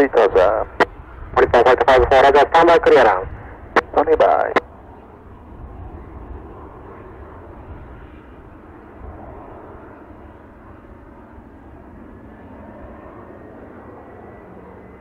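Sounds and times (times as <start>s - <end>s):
wind rumble on microphone: 0.0s - 13.8s
jet engine hum with whine: 0.0s - 15.0s.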